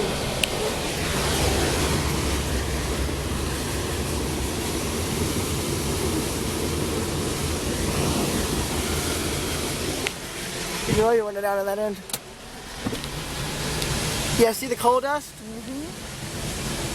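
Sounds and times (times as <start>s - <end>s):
train wheels rumbling on rails: 0.0s - 14.5s.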